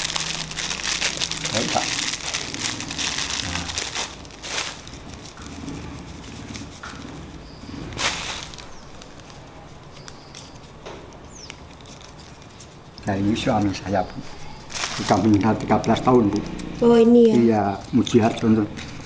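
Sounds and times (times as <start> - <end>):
loud rustles: 0.0 - 19.0
plastic bag crinkling: 0.0 - 19.0.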